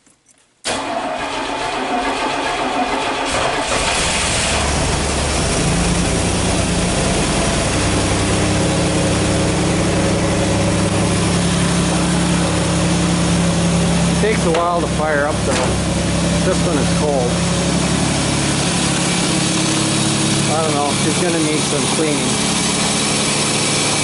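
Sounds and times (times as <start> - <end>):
car engine starting and idling: 0.6 - 24.0.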